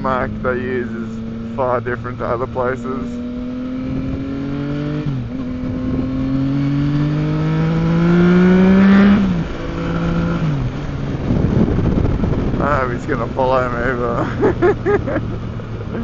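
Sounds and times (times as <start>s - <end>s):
motorcycle engine accelerating: 0.0s - 16.0s
wind and road noise: 0.0s - 16.0s.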